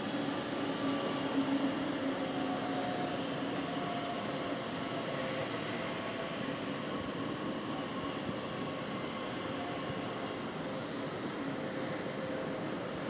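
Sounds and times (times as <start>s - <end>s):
electric train humming: 0.0s - 13.0s
faint whining tones: 0.0s - 13.0s.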